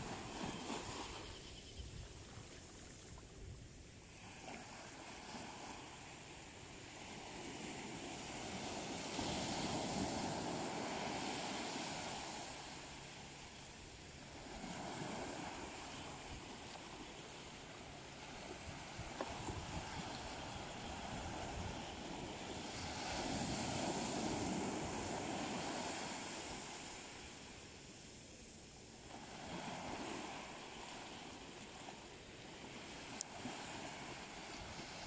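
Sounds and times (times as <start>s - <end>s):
small waves breaking on beach: 0.0s - 35.0s.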